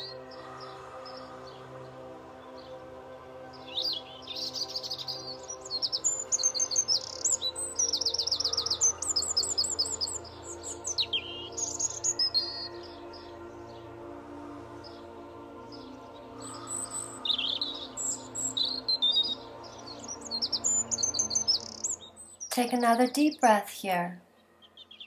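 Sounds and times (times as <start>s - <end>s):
soft background music: 0.0s - 25.0s
songbird singing: 0.0s - 25.0s.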